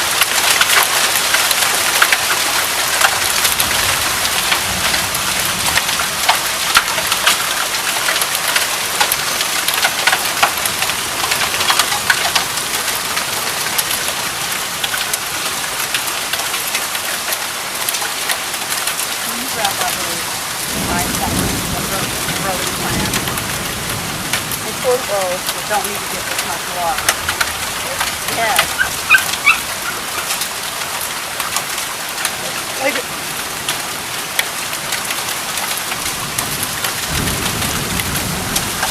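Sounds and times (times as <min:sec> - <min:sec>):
heavy rain pouring: 0:00.0 - 0:38.9
raindrops tapping hard surfaces: 0:00.0 - 0:38.9.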